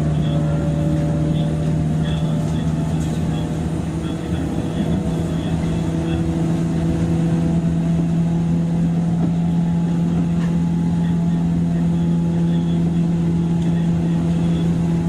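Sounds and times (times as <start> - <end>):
electric train motor hum: 0.0 - 15.0
train wheels rumbling on track: 0.0 - 15.0.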